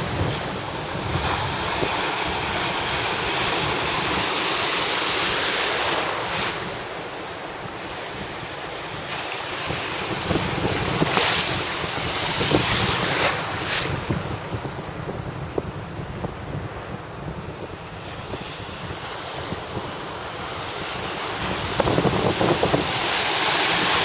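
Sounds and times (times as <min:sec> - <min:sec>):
small surf breaking on beach: 0:00.0 - 0:14.7, 0:17.8 - 0:24.0
wind gusting on microphone: 0:00.0 - 0:24.0.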